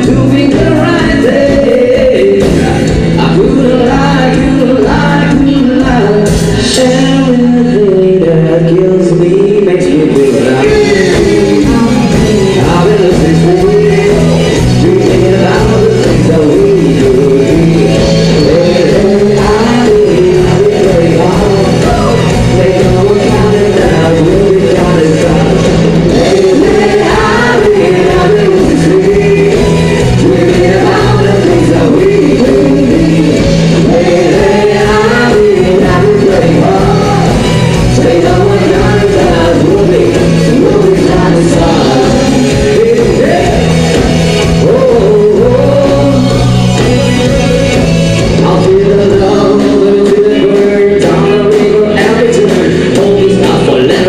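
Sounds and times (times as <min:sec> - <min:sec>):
live band playing loud music: 0:00.0 - 0:54.0
person singing: 0:00.0 - 0:54.0.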